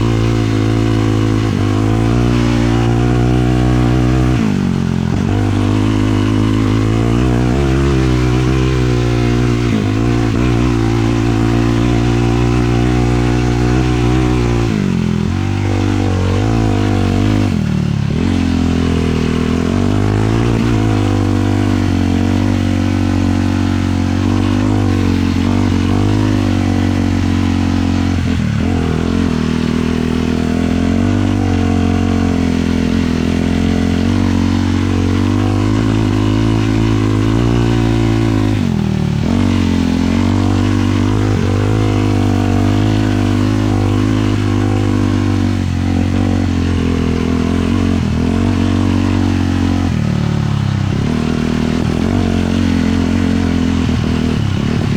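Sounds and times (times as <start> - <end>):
quad engine revving: 0.0 - 54.9.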